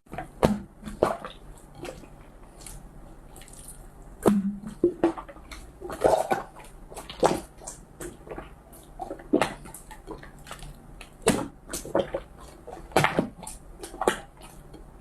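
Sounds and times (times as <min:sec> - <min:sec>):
slime squishing by hand: 0:00.1 - 0:15.0.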